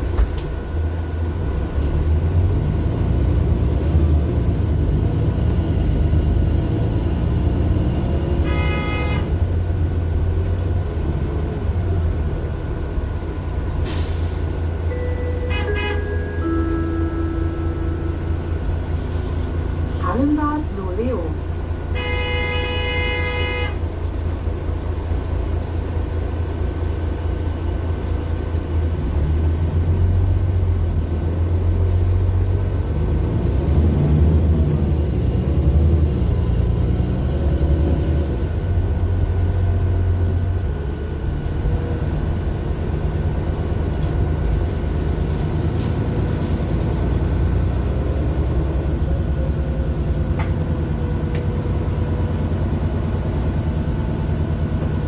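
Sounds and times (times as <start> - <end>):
bus diesel engine from inside: 0.0 - 55.0.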